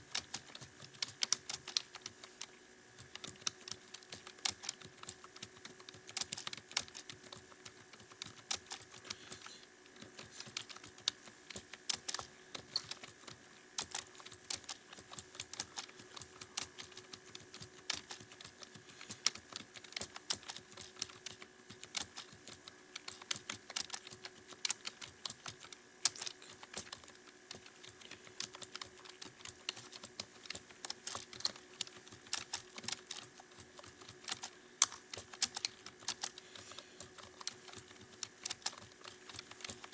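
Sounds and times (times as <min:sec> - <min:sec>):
faint steady hum: 0:00.0 - 0:39.9
keyboard typing: 0:00.0 - 0:39.9.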